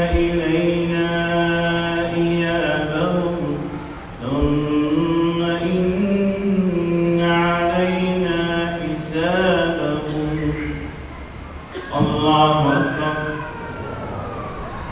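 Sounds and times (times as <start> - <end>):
man chanting recitation: 0.0 - 11.0, 11.9 - 13.6.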